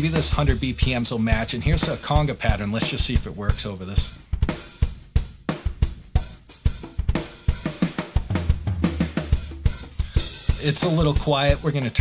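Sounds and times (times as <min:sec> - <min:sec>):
conga pattern: 0:00.0 - 0:12.0
drum kit groove: 0:00.0 - 0:12.0.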